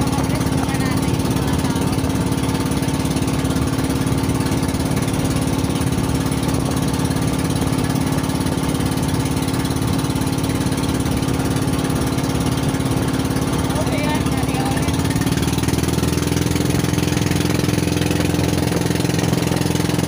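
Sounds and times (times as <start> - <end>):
small boat engine droning: 0.0 - 20.0.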